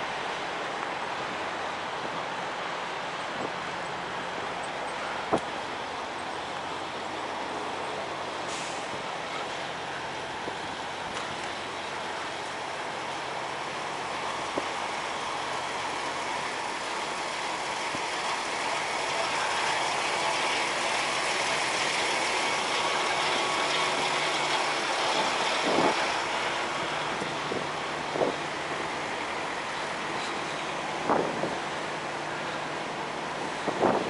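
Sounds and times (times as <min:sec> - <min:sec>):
trucks idling: 0:00.0 - 0:34.0.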